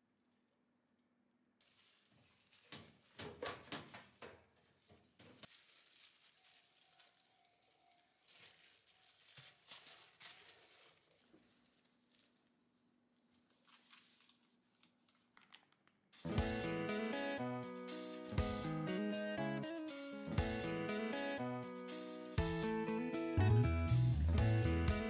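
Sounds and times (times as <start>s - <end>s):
plastic glove crinkle: 0.0s - 20.6s.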